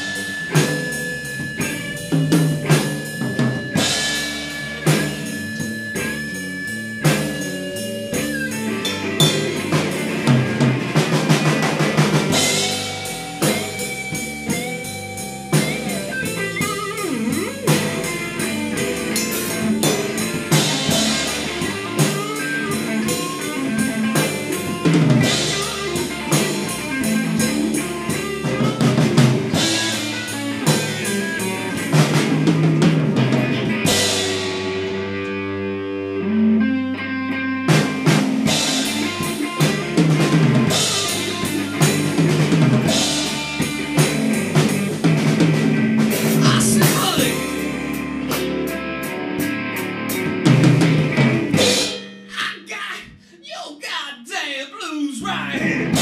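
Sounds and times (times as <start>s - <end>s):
drum kit: 0.0s - 36.6s, 37.6s - 54.0s, 54.8s - 56.0s
electric guitars: 0.0s - 52.3s, 55.4s - 56.0s
bass guitar: 0.0s - 53.2s, 55.2s - 56.0s.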